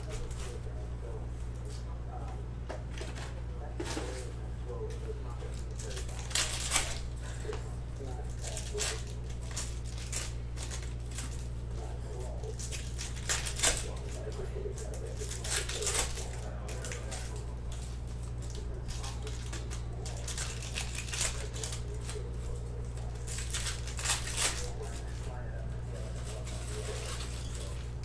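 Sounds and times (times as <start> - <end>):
foil wrappers crinkling and tearing: 0.0 - 1.9, 2.9 - 28.0
steady low hum: 0.0 - 28.0.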